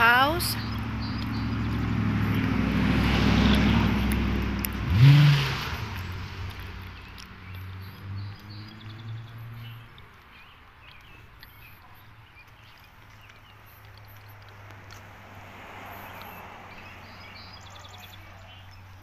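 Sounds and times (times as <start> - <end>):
road noise: 0.0 - 19.0
vehicle engine: 0.0 - 19.0.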